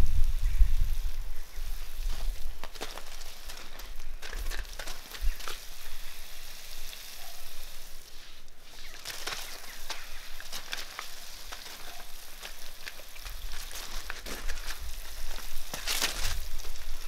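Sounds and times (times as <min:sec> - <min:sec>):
hose water spattering on gravel: 0:00.0 - 0:17.0.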